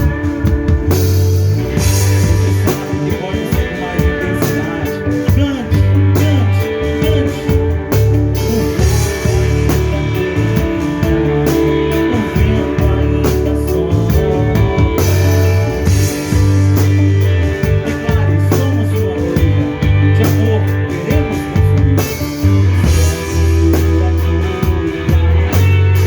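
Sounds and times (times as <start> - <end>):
live band with electric guitar: 0.0 - 26.0.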